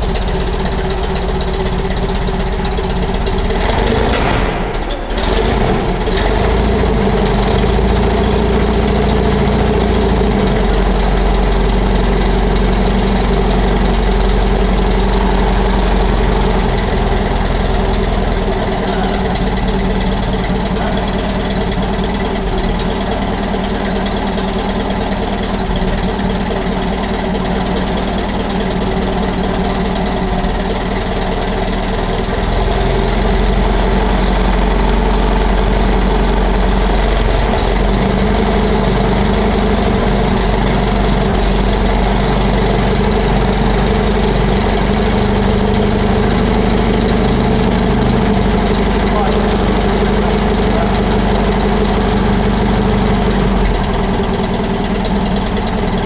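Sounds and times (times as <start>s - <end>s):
van engine idling: 0.0s - 56.0s.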